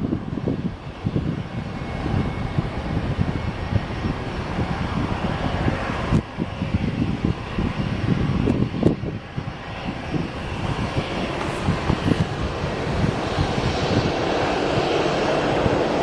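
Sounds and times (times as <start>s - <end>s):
jet engine rushing noise: 0.0s - 16.0s
low rumble: 0.0s - 16.0s.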